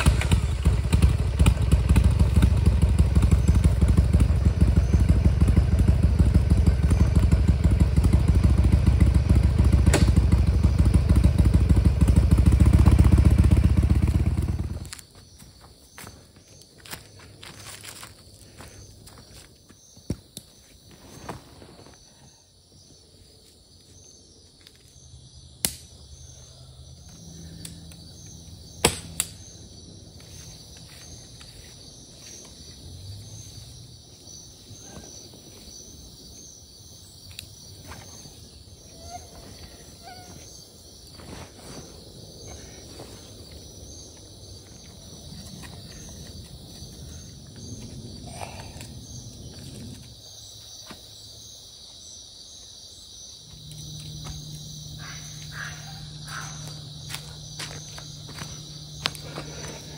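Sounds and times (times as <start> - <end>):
pulsing insect chorus: 0.0 - 59.9.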